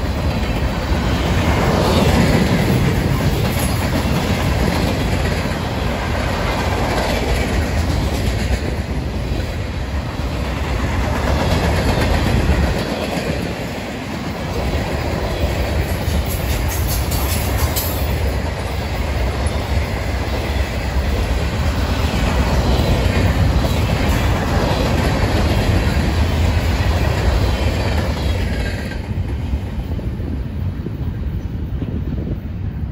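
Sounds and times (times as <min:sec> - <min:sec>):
freight train rolling past: 0:00.0 - 0:32.9.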